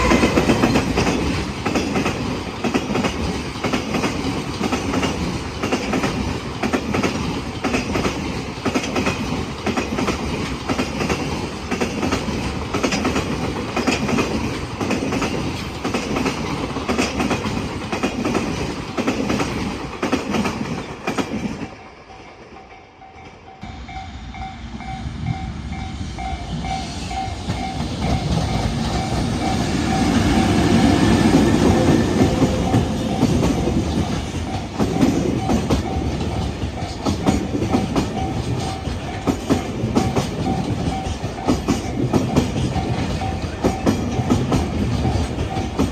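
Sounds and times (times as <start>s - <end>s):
train wheels clattering: 0.0s - 21.7s, 25.3s - 45.9s
train approaching: 0.0s - 45.9s.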